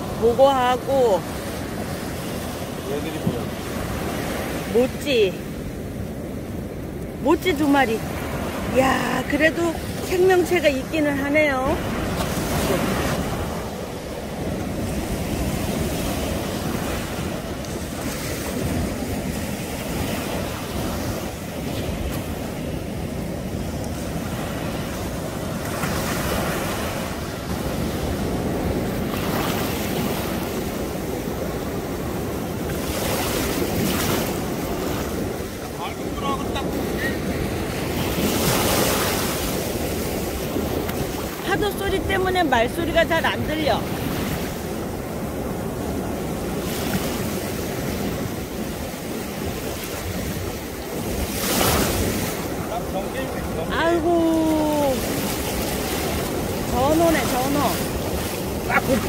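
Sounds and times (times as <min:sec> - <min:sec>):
surf breaking in shallow water: 0:00.0 - 0:59.0
wind rumbling on microphone: 0:00.0 - 0:59.0.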